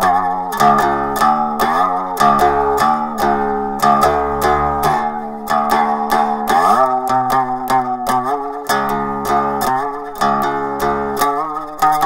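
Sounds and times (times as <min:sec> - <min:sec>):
slide string instrument melody: 0:00.0 - 0:12.0.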